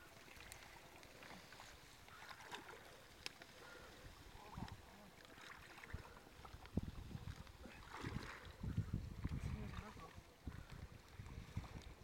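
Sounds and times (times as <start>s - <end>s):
shallow water sloshing: 0.0s - 12.0s.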